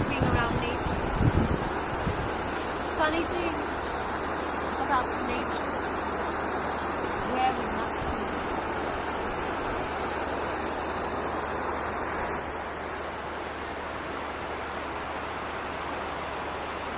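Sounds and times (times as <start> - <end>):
rushing flowing water: 0.0 - 16.9.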